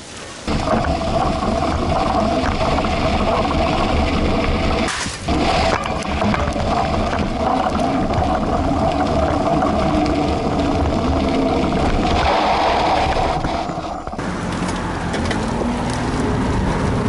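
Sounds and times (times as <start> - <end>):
bike tyre rolling on pavement: 0.0 - 17.0.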